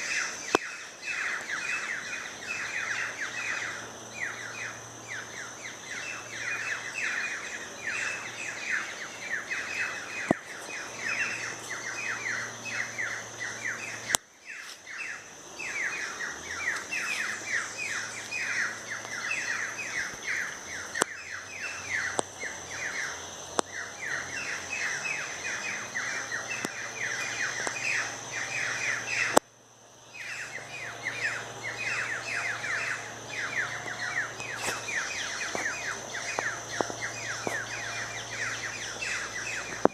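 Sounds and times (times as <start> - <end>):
chorus of birds chirping: 0.0 - 39.9
faint high-pitched hum: 0.0 - 39.9.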